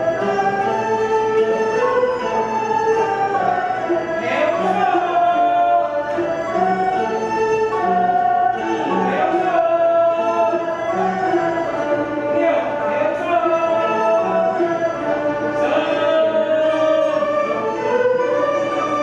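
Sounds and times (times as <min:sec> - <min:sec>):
ceremonial temple music: 0:00.0 - 0:19.0.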